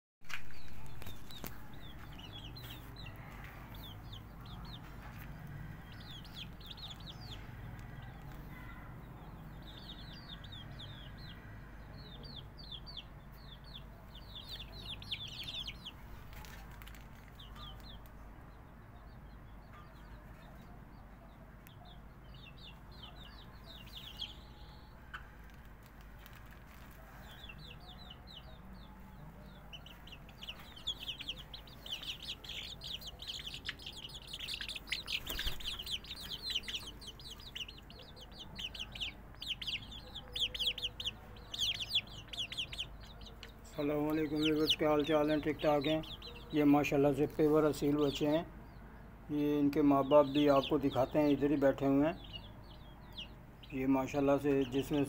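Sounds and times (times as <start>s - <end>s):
chicks peeping: 0.3s - 55.0s.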